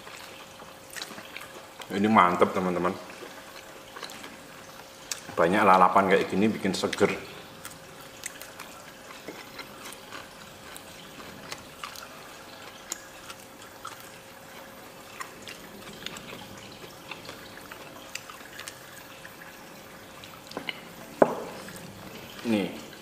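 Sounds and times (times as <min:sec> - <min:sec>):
aquarium water trickling: 0:00.0 - 0:23.0
eating by hand from plates: 0:00.0 - 0:23.0
faint steady hum: 0:00.0 - 0:23.0.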